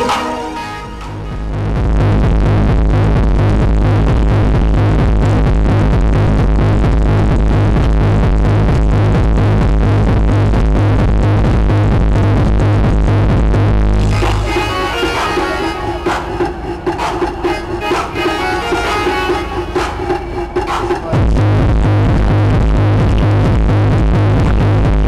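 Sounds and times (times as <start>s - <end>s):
loud techno music with heavy bass: 0.0s - 25.0s.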